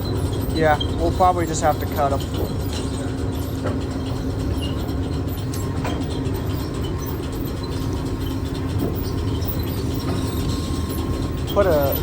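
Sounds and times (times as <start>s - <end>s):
machinery rumble and hum: 0.0s - 12.0s.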